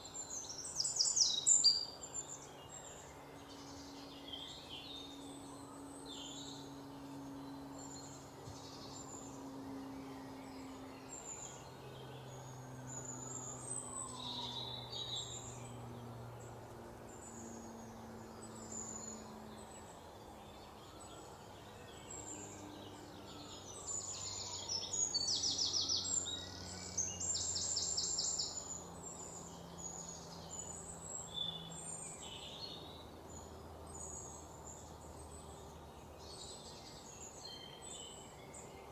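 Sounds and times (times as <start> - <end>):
birds chirping: 0.0 - 38.9
faint low hum: 0.0 - 38.9.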